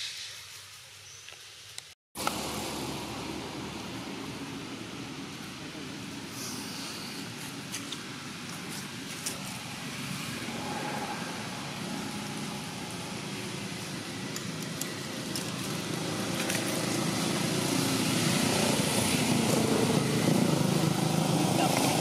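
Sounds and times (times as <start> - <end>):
passing motor vehicle engine: 2.2 - 22.0.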